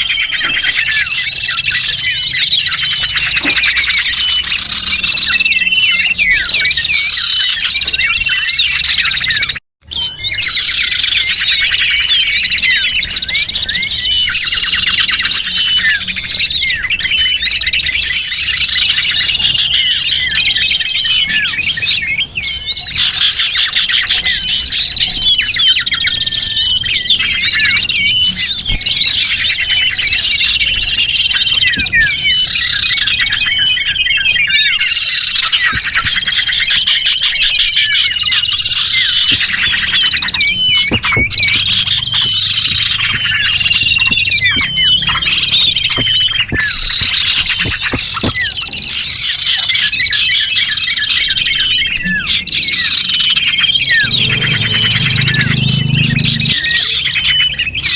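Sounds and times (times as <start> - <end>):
small birds chirping and twittering: 0.0 - 57.9.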